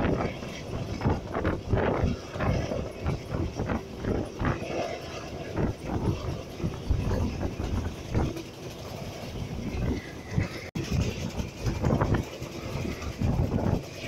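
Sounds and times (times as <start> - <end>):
train rumble inside coach: 0.0 - 14.0
wheels knocking on rails: 0.0 - 14.0
wind: 0.0 - 14.0.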